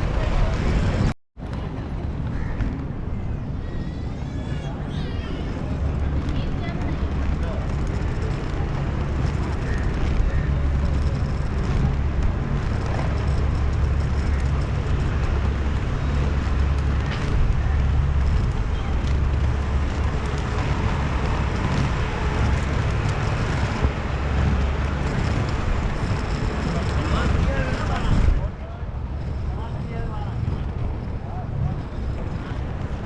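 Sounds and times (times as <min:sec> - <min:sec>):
skate wheels rolling on pavement: 0:00.0 - 0:33.0.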